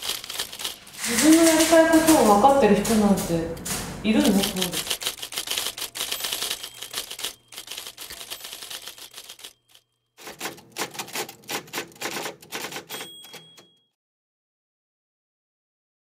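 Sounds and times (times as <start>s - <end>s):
typewriter keys clattering: 0.0s - 13.8s
typewriter bell dinging: 0.0s - 14.0s.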